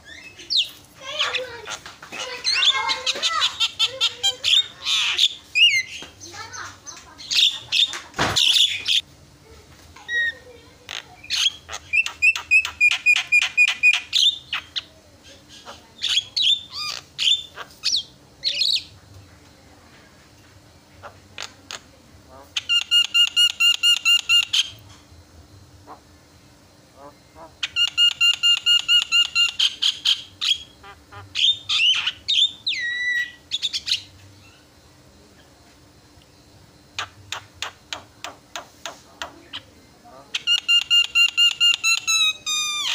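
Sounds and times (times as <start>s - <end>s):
bird chattering song: 0.0s - 9.0s, 10.0s - 19.0s, 20.8s - 24.8s, 27.0s - 34.8s, 36.9s - 42.9s
myna calling: 0.0s - 9.0s, 10.0s - 19.0s, 21.0s - 24.8s, 26.9s - 34.8s, 36.9s - 42.9s.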